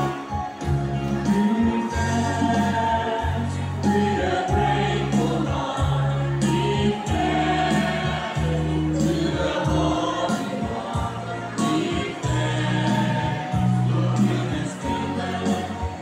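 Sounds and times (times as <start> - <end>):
amplified instrumental accompaniment: 0.0 - 16.0
choir singing a hymn: 1.2 - 16.0.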